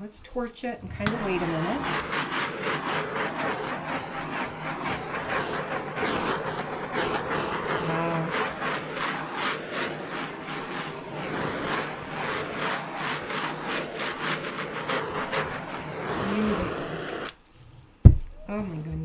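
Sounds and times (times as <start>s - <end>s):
butane torch flame hissing: 0.9s - 17.4s.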